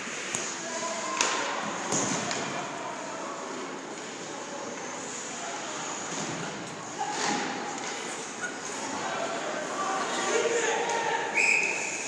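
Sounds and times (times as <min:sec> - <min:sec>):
ice rink background noise: 0:00.0 - 0:12.0.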